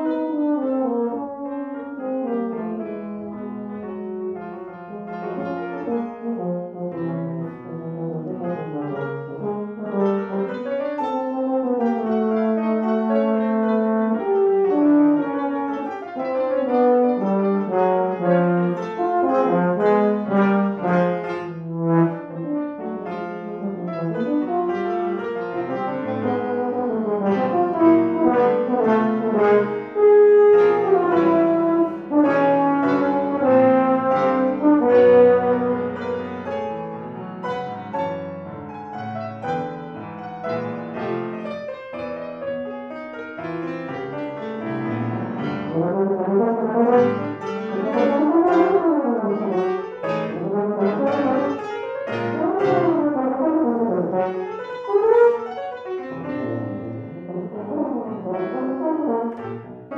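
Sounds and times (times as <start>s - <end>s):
piano accompaniment: 0.0s - 59.9s.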